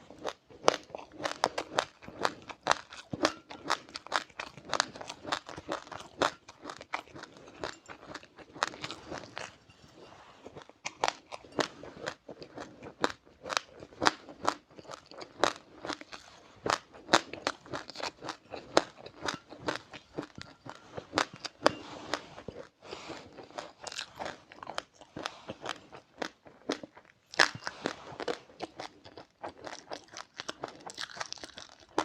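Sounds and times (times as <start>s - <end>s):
chewing crunchy seeds: 0.0s - 32.0s.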